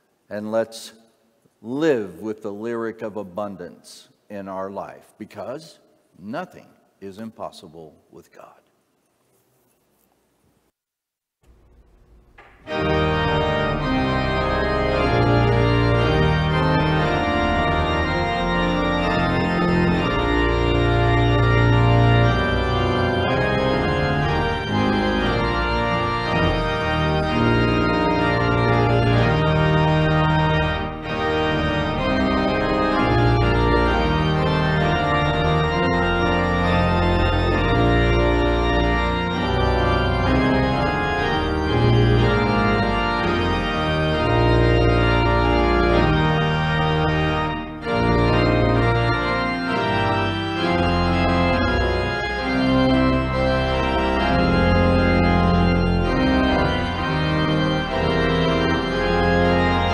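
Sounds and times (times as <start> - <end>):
organ playing slow chords: 0.0 - 1.0, 1.6 - 8.5, 11.5 - 59.9.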